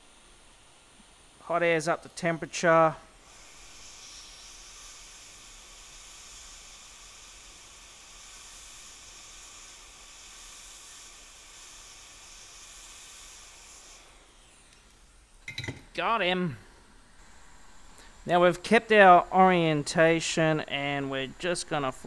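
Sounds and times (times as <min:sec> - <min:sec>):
hot air nozzle hissing: 0:00.0 - 0:22.0.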